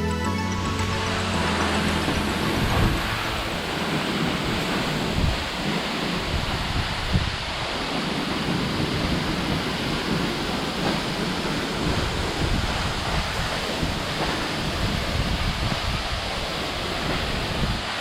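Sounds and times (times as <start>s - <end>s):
waterfall roaring: 0.7s - 18.0s.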